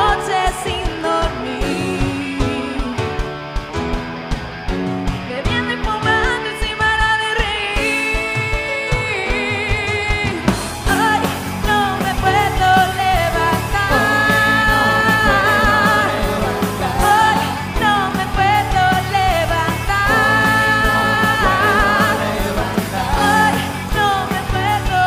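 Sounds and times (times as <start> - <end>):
person singing with vibrato: 0.0 - 3.2, 5.4 - 25.0
pop band with beat and bass: 0.0 - 25.0.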